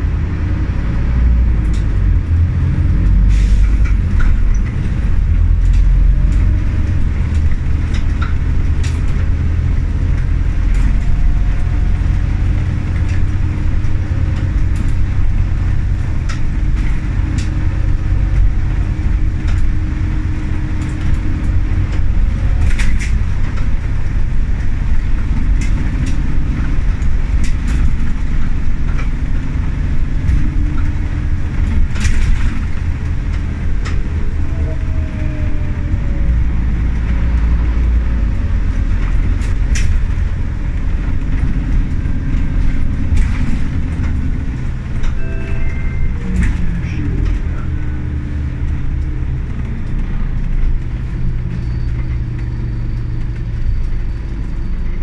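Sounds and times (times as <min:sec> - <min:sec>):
bus diesel engine rumbling: 0:00.0 - 0:55.0.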